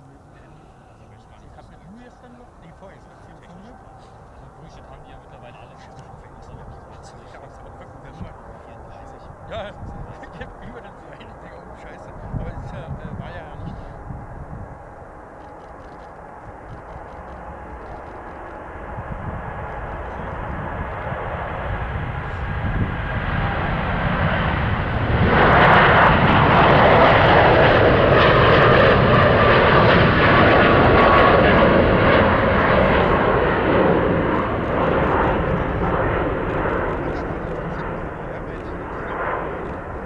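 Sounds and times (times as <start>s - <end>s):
jet engines roaring at takeoff: 0.0s - 40.0s.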